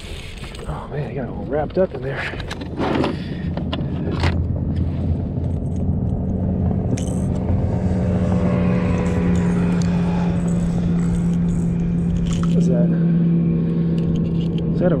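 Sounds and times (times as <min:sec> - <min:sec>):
higher hum: 0:00.0 - 0:15.0
motor humming: 0:02.8 - 0:15.0.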